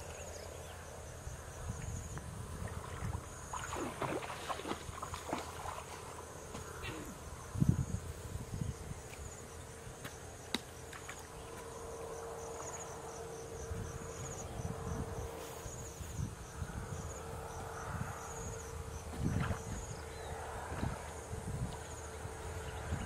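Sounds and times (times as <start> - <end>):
wind rumble on microphone: 0.0 - 10.0, 11.2 - 23.0
insects chirping: 0.0 - 23.0.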